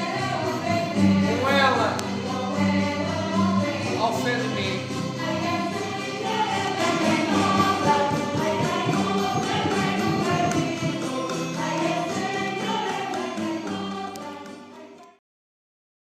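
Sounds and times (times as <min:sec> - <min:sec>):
choir singing: 0:00.0 - 0:15.2.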